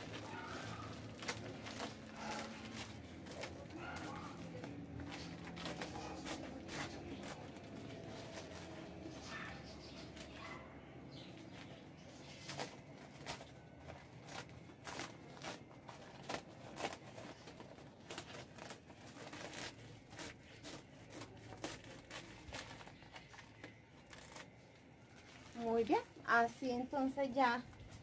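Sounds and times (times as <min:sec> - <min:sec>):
plastic bag crinkling: 0:00.0 - 0:10.5, 0:11.3 - 0:26.3
scissors cutting plastic bag: 0:00.0 - 0:10.6, 0:11.2 - 0:26.0.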